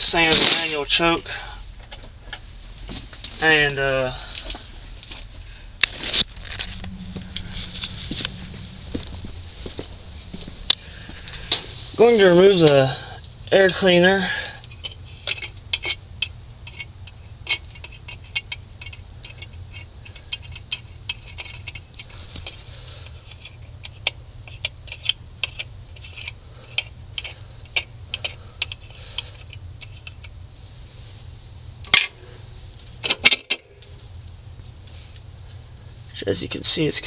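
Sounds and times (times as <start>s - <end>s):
steady low hum: 1.2s - 36.3s.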